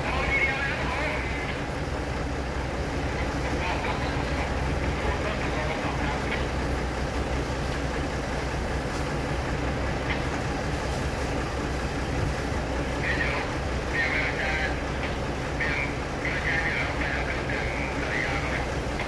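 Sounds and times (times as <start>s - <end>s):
diesel train engine idling: 0.0s - 19.0s.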